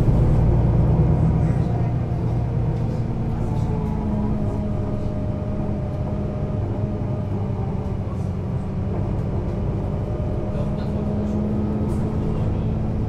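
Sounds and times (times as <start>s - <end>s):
bus drivetrain hum: 0.0s - 13.0s.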